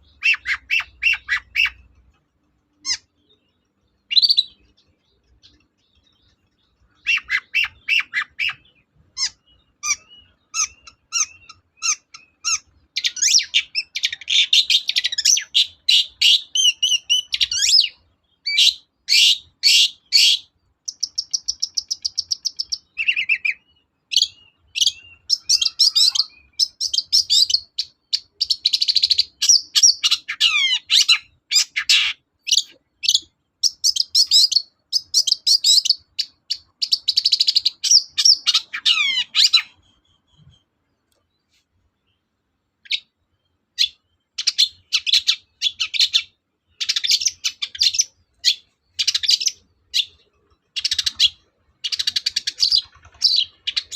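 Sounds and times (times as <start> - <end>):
bird singing chattering song: 0.0 - 53.9.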